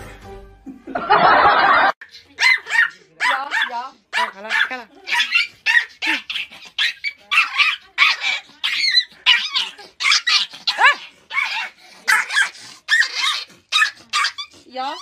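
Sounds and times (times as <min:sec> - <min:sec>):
dog barking: 0:02.4 - 0:14.5.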